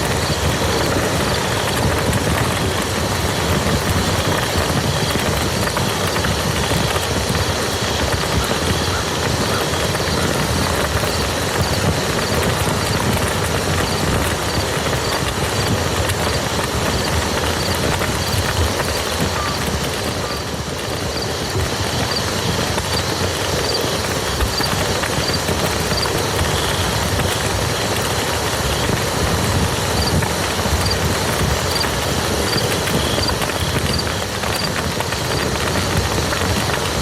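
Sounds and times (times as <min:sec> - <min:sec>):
rain on muddy ground: 0:00.0 - 0:37.0.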